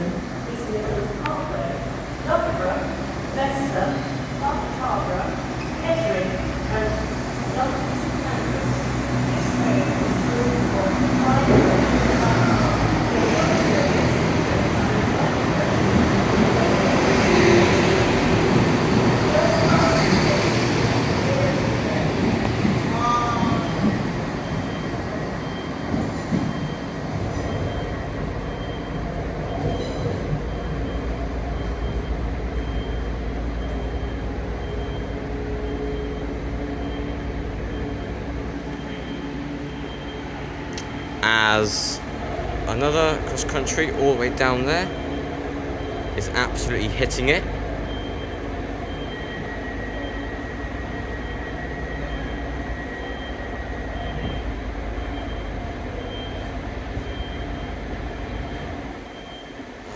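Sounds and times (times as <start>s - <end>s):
diesel train engines rumbling: 0.0s - 59.9s.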